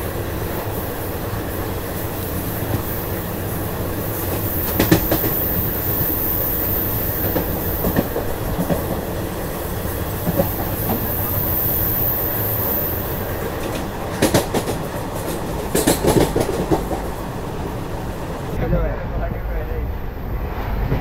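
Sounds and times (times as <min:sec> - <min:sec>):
train rumble: 0:00.0 - 0:21.0
wheels clacking over rail joints: 0:00.4 - 0:18.9.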